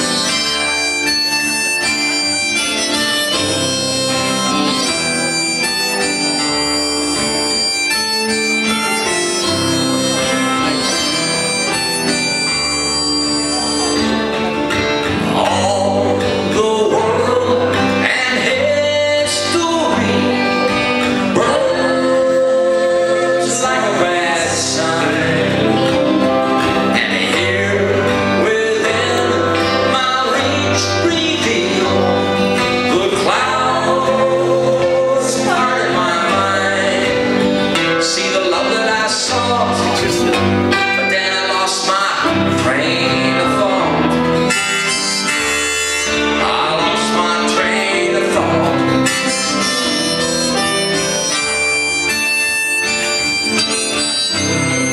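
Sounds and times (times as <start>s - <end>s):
acoustic guitar: 0.0s - 54.9s
bass: 0.0s - 54.9s
harmonica melody: 0.0s - 54.9s.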